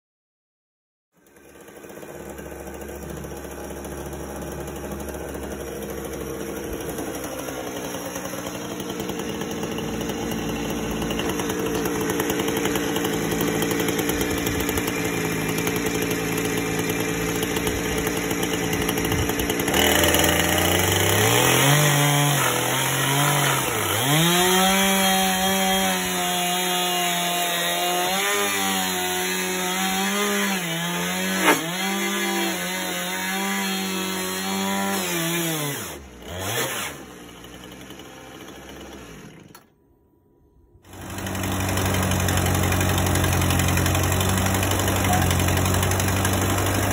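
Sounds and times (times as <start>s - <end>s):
chainsaw cutting timber: 1.2s - 39.8s, 40.8s - 46.9s.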